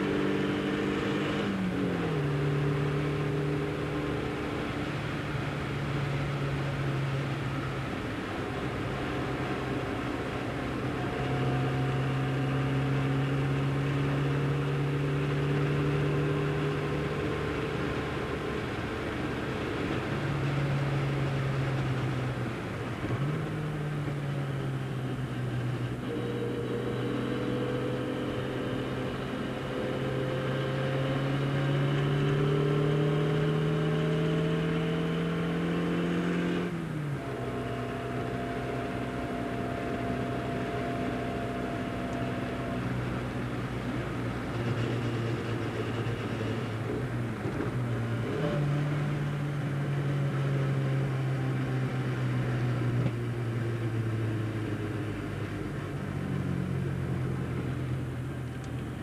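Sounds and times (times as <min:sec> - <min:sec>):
car engine revving from inside cabin: 0:00.0 - 0:22.4, 0:23.1 - 0:59.0.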